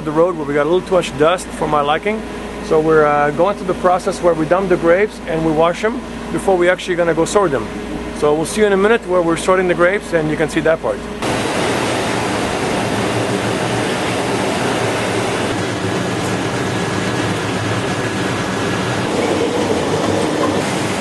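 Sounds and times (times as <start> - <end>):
conveyor machinery clattering: 0.0 - 21.0.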